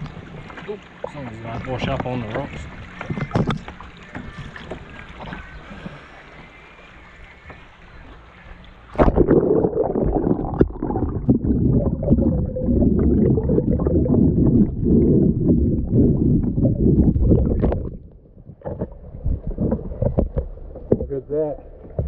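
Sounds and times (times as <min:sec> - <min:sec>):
muffled underwater water rumble: 0:00.0 - 0:22.0
water against kayak hull: 0:00.0 - 0:22.0.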